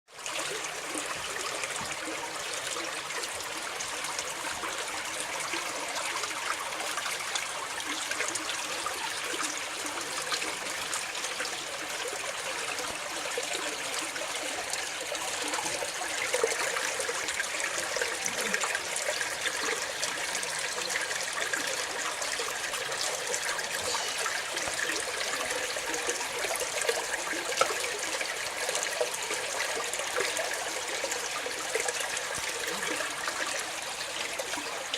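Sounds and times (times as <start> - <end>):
running water trickling: 0.1 - 34.9.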